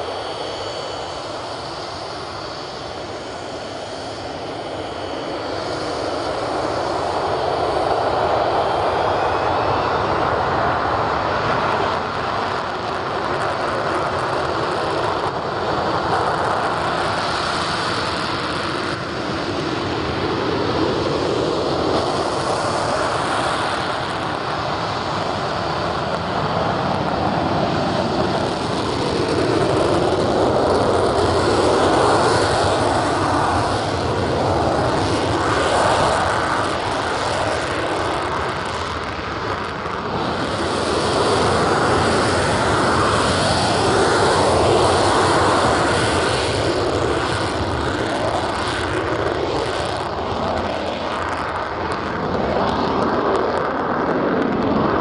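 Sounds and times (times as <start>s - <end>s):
high engine whine: 0.0s - 55.0s
jet engines running: 0.0s - 55.0s.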